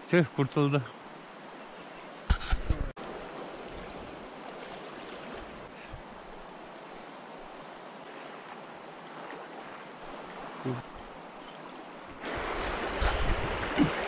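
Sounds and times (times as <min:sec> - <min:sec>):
stream running over gravel: 0:02.2 - 0:14.0.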